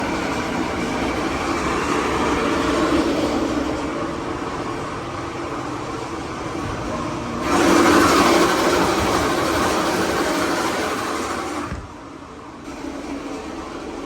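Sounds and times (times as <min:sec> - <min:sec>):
air handler mechanical noise and hum: 0:00.0 - 0:14.0.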